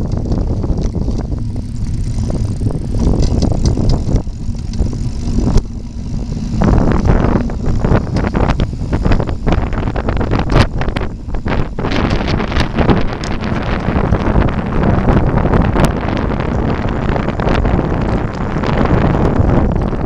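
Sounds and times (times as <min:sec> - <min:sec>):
bicycle knocks and rattles: 0:00.0 - 0:16.7
wind buffeting microphone: 0:00.0 - 0:20.0.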